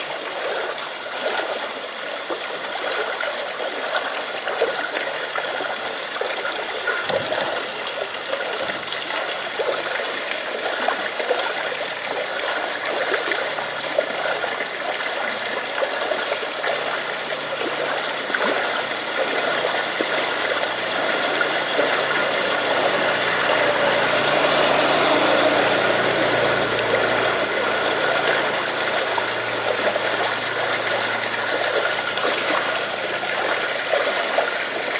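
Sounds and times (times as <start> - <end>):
rain: 0.0 - 34.9
running water: 0.0 - 34.9
low engine rumble: 6.9 - 34.9.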